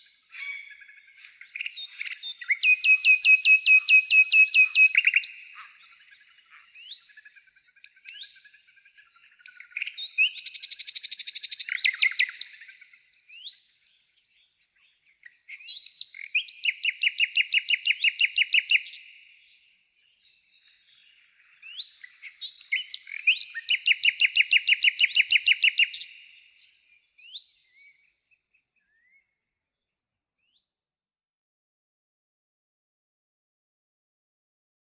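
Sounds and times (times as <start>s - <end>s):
songbird trilling: 0.0s - 29.2s.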